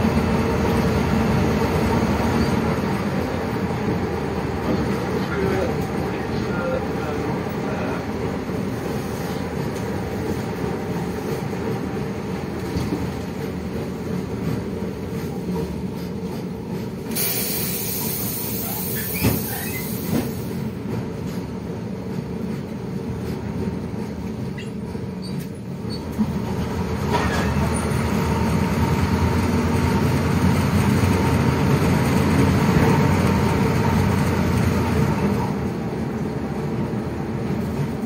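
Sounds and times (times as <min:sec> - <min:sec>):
bus engine drone: 0:00.0 - 0:38.0.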